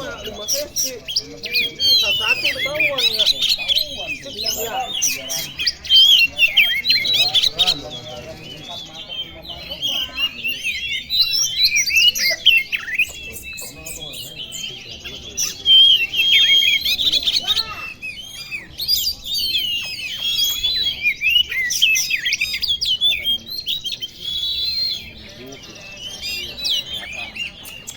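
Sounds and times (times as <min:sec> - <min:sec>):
bird singing whistles and chatter: 0:00.0 - 0:27.9.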